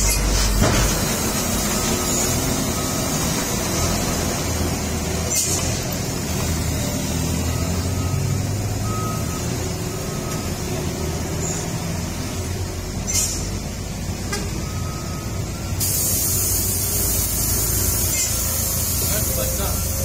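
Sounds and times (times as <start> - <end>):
trucks and traffic engine drone: 0.0 - 20.0.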